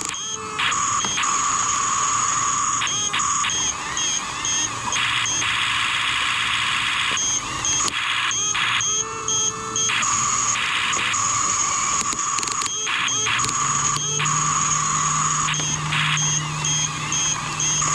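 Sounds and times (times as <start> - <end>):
electric motors whining: 0.0 - 17.9.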